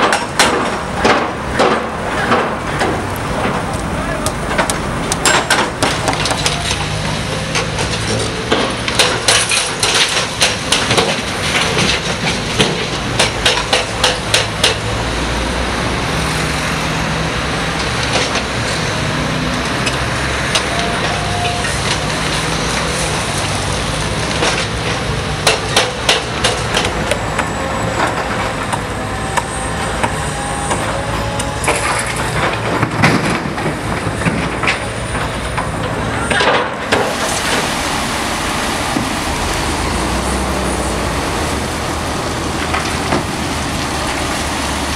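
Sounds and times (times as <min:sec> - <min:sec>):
heavy machinery running: 0:00.0 - 0:44.9.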